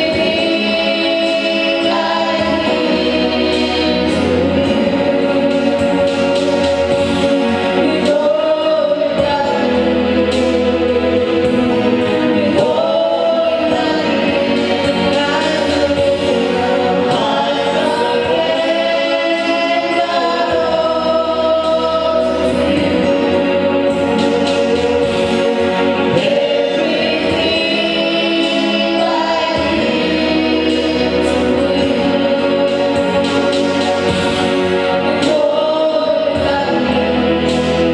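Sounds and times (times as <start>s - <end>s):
choir singing gospel song: 0.0s - 37.9s
instrumental backing: 0.0s - 37.9s.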